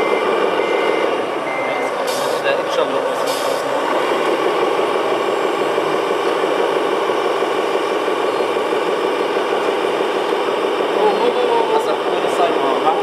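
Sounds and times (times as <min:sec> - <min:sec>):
model diesel engine sound: 0:00.0 - 0:13.0.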